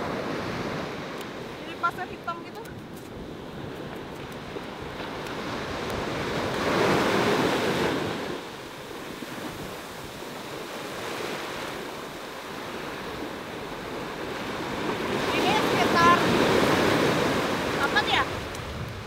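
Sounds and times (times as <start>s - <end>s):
surf waves crashing: 0.0s - 19.0s
wind buffeting microphone: 0.0s - 19.0s.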